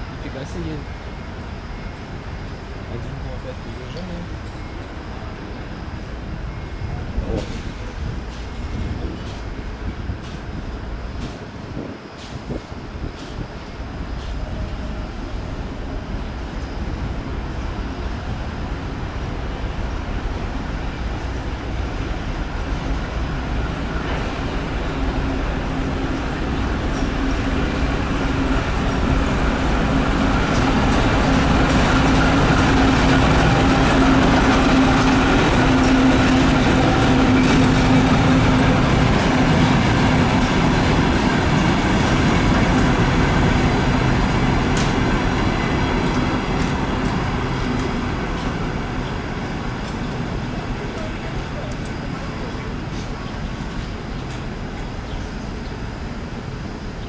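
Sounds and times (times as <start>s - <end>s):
diesel locomotive engine drone: 0.0s - 57.0s
rail noise: 0.0s - 57.0s.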